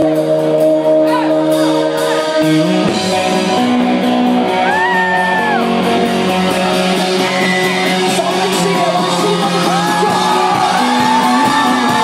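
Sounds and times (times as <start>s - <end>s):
drums: 0.0s - 12.0s
electric guitar: 0.0s - 12.0s.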